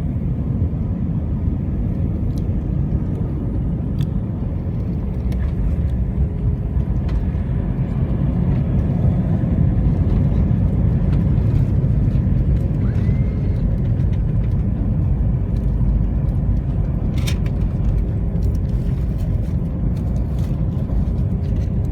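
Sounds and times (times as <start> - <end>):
airplane cabin rumble: 0.0 - 21.9.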